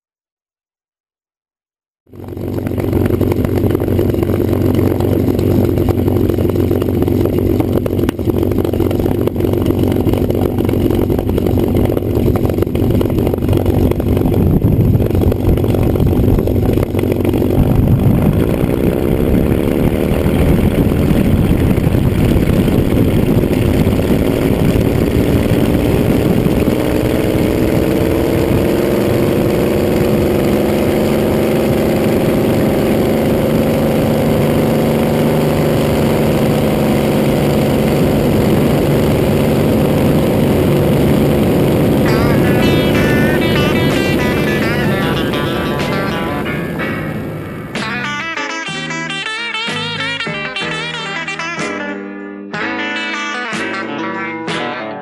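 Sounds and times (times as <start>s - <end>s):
propeller aircraft engine running: 2.0s - 51.6s.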